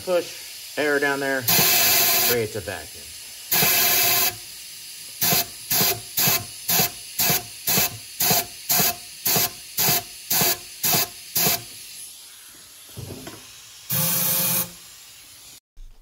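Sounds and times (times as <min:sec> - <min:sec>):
compressed air hissing in short bursts: 0:00.0 - 0:15.6.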